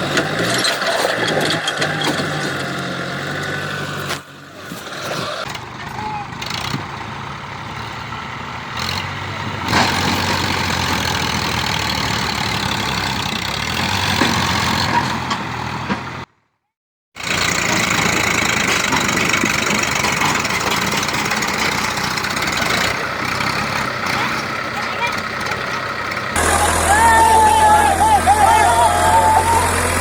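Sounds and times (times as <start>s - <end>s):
tractor engine running: 0.0s - 16.3s, 17.2s - 30.0s.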